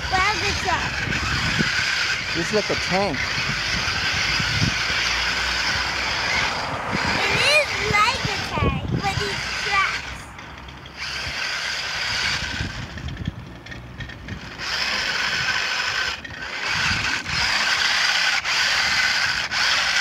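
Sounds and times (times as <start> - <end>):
toy truck motor whirring: 0.0 - 20.0.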